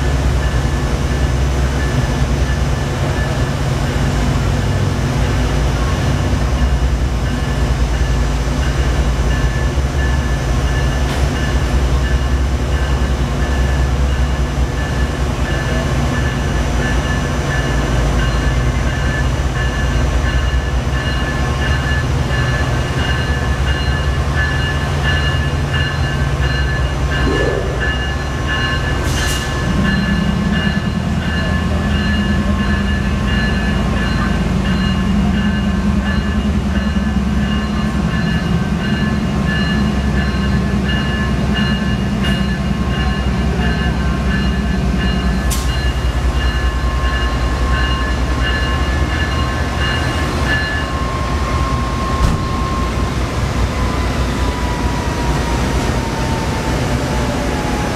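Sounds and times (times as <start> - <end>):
diesel locomotive engine running: 0.0 - 57.9
locomotive bell ringing: 0.0 - 57.9.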